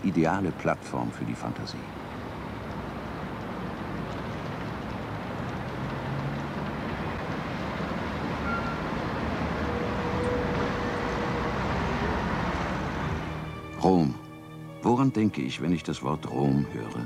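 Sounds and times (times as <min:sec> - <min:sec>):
urban traffic hum: 0:00.0 - 0:17.0.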